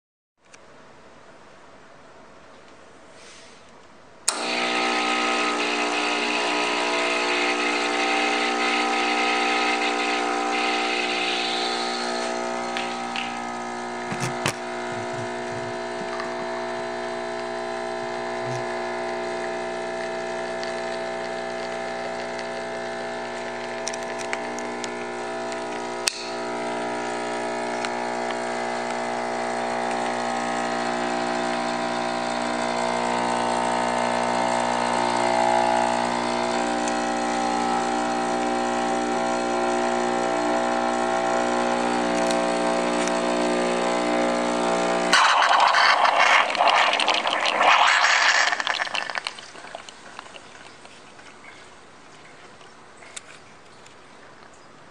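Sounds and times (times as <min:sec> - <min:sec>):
espresso machine pump humming: 0:04.3 - 0:51.7.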